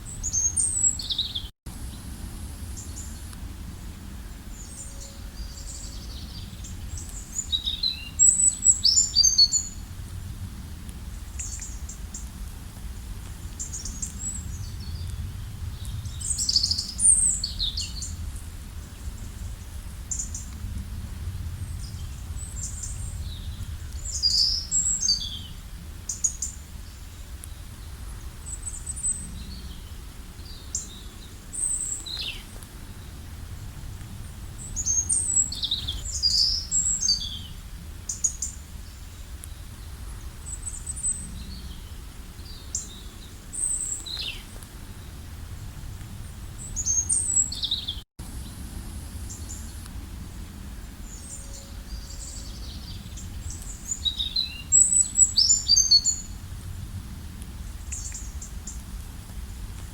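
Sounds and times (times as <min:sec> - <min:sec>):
songbirds chirping: 0:00.0 - 0:56.8, 0:57.4 - 0:59.9.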